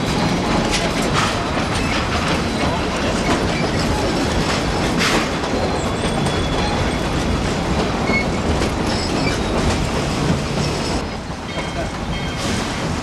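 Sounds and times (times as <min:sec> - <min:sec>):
train wheels rumbling and clattering: 0:00.0 - 0:13.0.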